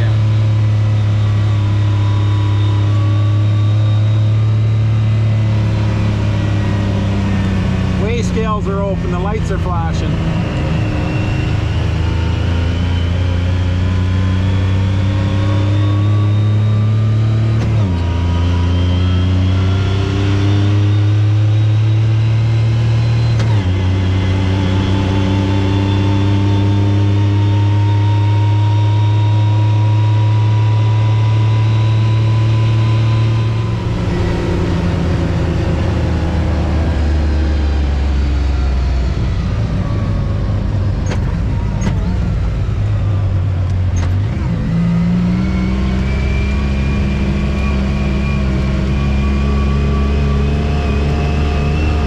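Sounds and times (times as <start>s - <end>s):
vehicle engine accelerating: 0.0s - 52.0s.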